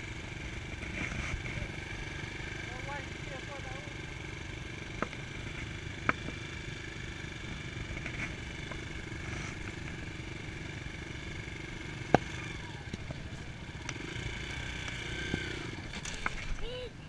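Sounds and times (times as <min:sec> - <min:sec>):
dirt bike engine idling: 0:00.0 - 0:17.0.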